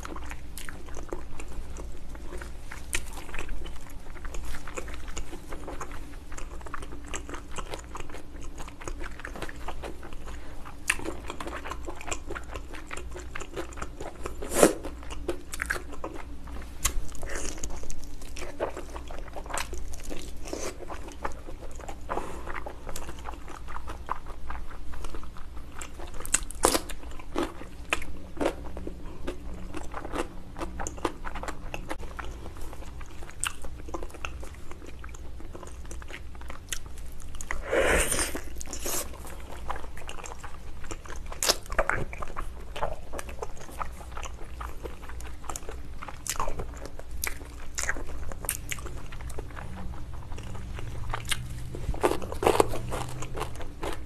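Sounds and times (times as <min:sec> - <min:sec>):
biting and chewing: 0:00.0 - 0:54.0.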